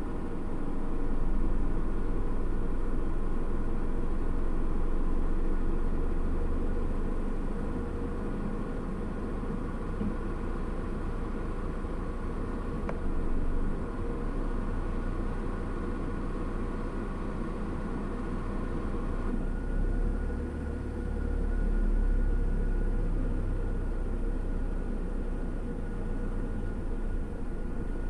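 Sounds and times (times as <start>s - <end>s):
deeper engine rumble: 0.0s - 28.0s
idling engine from inside cabin: 0.0s - 28.0s.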